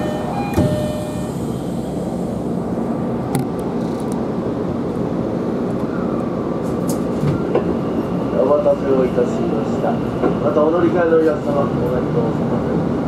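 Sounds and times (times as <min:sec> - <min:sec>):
subway train rumble and hum: 0:00.0 - 0:13.0.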